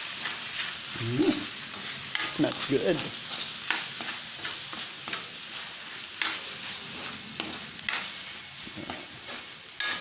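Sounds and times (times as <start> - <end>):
food sizzling in a wok: 0.0 - 10.0
spatula scraping a pan: 0.0 - 10.0.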